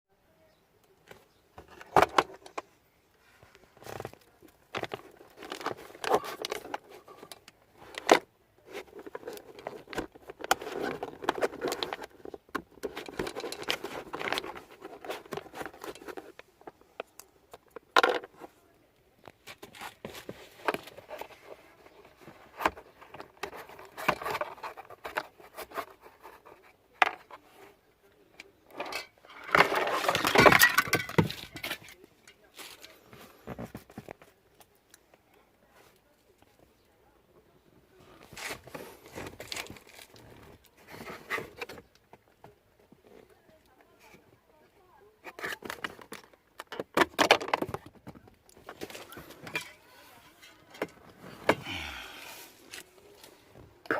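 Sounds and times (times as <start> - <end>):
plastic parts clicking and knocking: 0.8 - 2.7, 3.4 - 18.6, 19.2 - 27.7, 28.3 - 35.3, 38.2 - 44.3, 45.2 - 51.7
rustling and scraping: 1.0 - 36.8, 37.5 - 44.4, 45.1 - 53.9.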